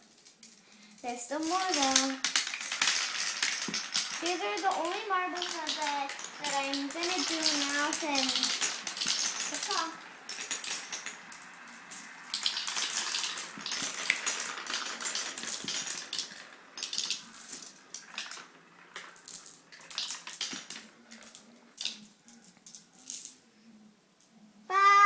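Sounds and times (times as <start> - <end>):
marbles rattling down wooden run: 0.0 - 23.4.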